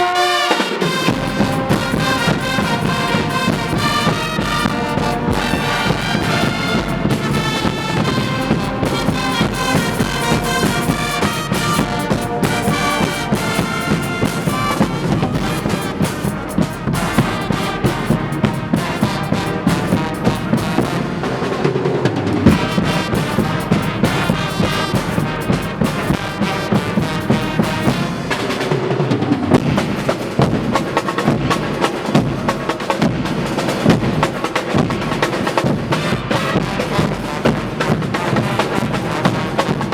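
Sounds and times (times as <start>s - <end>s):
brass band playing: 0.0s - 39.9s
drums keeping a steady beat: 0.0s - 39.9s.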